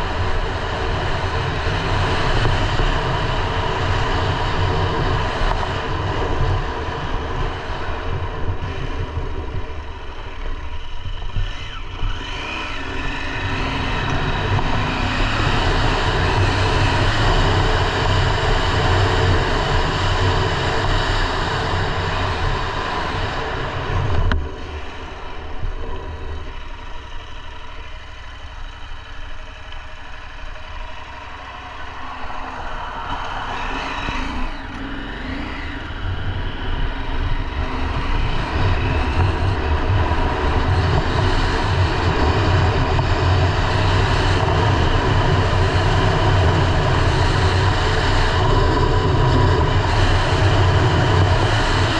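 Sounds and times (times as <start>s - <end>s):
motorcycle engine running: 0.0s - 51.9s
wind noise: 0.0s - 51.9s.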